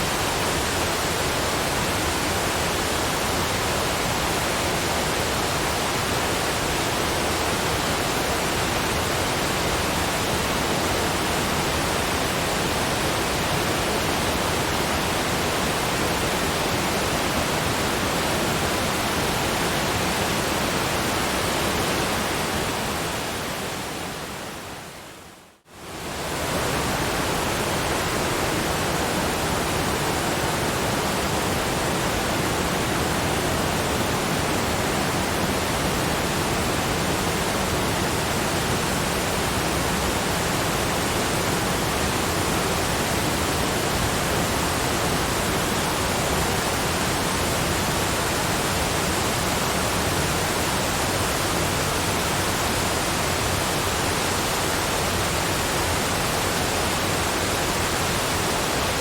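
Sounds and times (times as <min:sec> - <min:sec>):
waterfall rushing water: 0:00.0 - 0:59.0.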